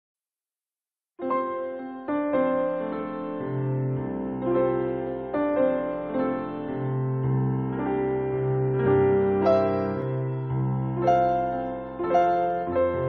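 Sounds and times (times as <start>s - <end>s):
slow piano music: 1.2s - 13.0s.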